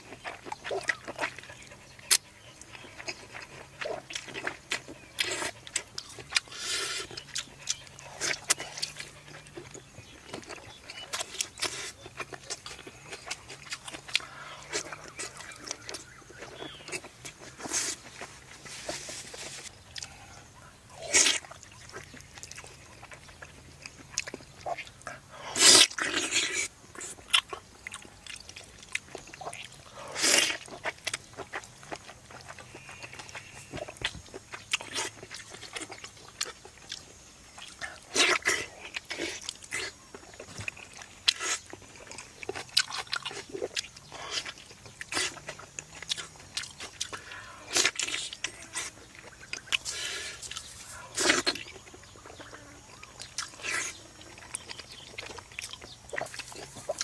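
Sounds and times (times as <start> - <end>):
wet chewing and slurping: 0.0 - 57.0.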